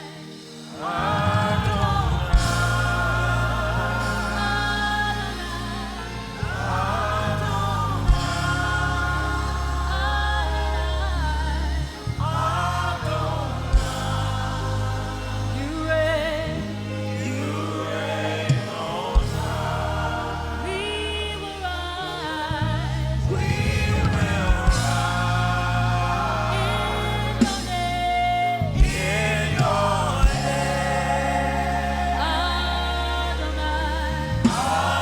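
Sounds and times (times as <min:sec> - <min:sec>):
bass and keyboard chords: 0:00.0 - 0:35.0
choir singing: 0:00.0 - 0:35.0.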